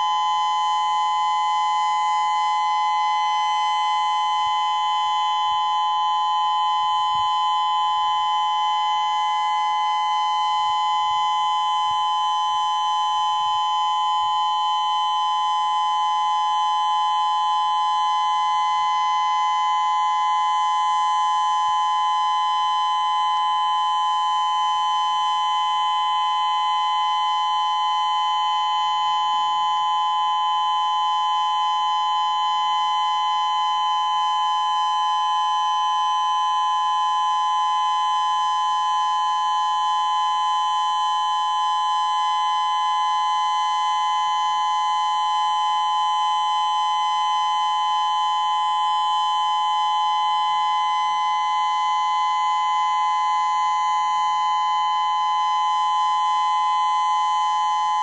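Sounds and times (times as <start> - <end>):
warning siren steady tone: 0.0 - 58.0.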